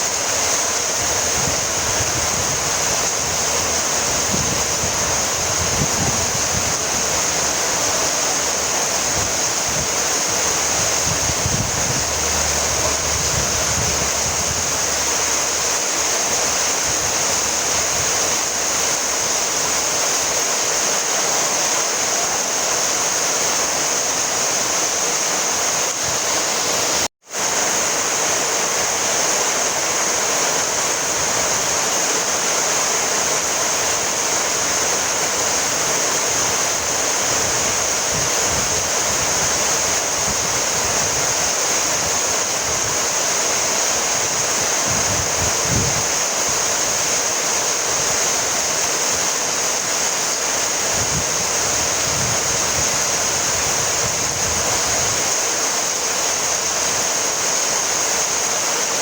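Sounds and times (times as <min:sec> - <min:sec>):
heavy rainfall hiss: 0:00.0 - 0:59.0.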